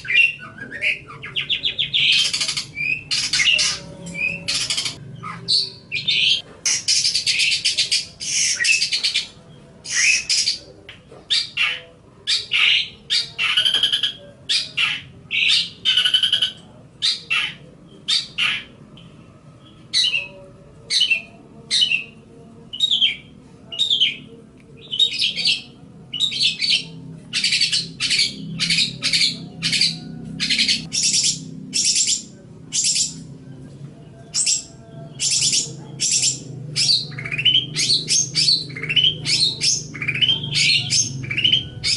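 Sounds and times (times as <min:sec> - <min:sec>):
shrike chattering song: 0:00.0 - 0:10.6, 0:11.3 - 0:18.8, 0:19.7 - 0:33.3, 0:34.2 - 0:41.9.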